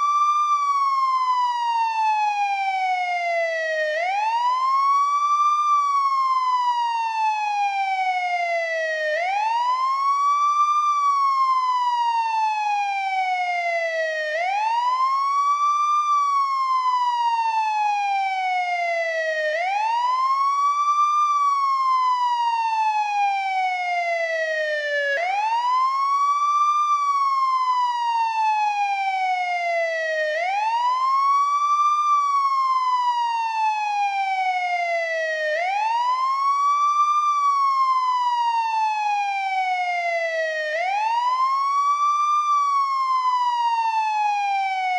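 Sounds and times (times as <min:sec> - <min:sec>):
police siren wailing: 0:00.0 - 0:44.9.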